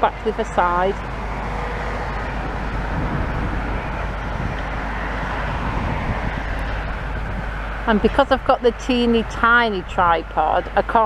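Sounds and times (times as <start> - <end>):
excavator diesel engine rumbling: 0.0 - 11.0.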